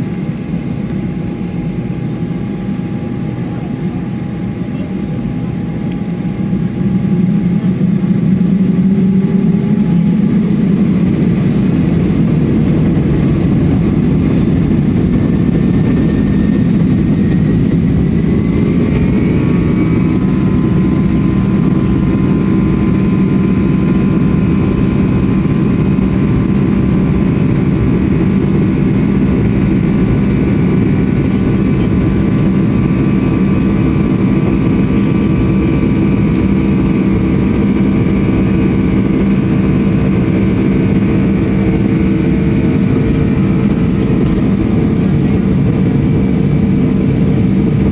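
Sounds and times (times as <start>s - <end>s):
jet engines rumbling in cabin: 0.0s - 47.9s
whining engine tones: 0.0s - 47.9s.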